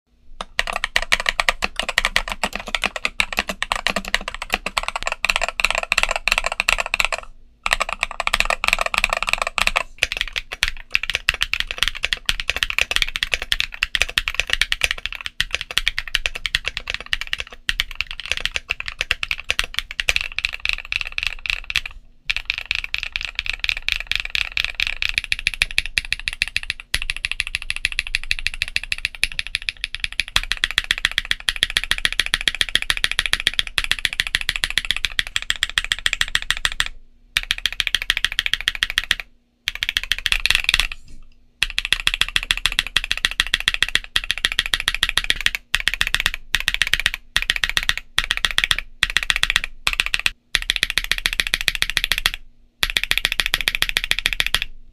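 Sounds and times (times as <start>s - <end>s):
fast mechanical keyboard typing: 0.4s - 41.0s, 41.6s - 54.7s.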